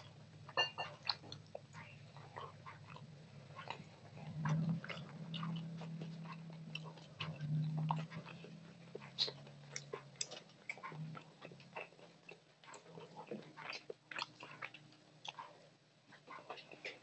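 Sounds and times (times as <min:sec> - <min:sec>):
wet mouth clicks and chewing: 0:00.0 - 0:17.0.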